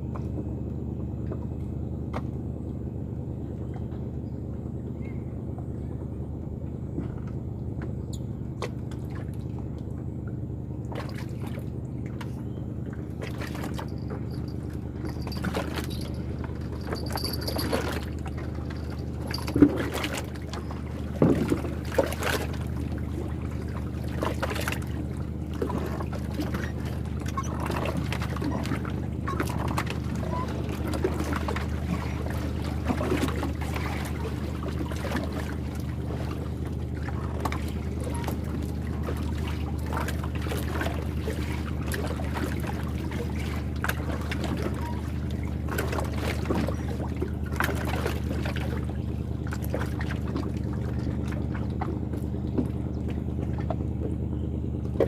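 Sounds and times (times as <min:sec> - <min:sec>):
engine humming: 0:00.0 - 0:55.0
water splashing and trickling: 0:08.6 - 0:55.0.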